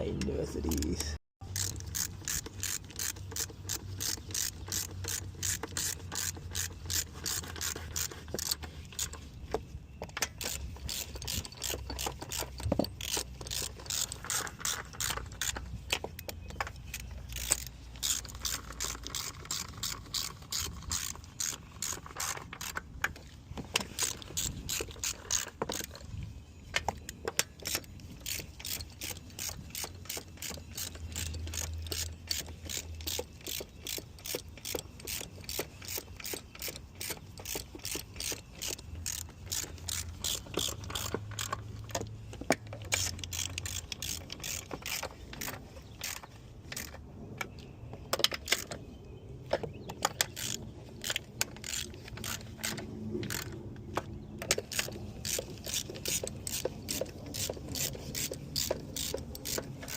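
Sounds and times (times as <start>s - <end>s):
hand ratchet clicking: 0.7s - 9.2s, 10.2s - 26.1s, 26.7s - 47.0s, 50.0s - 59.9s.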